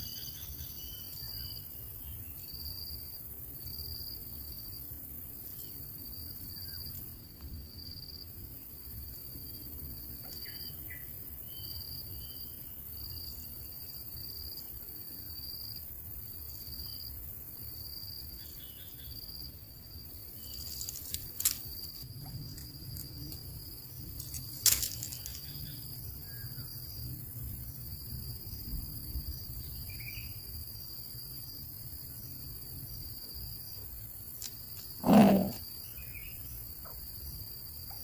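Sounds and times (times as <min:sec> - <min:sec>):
insect chirping trill: 0:00.0 - 0:38.0.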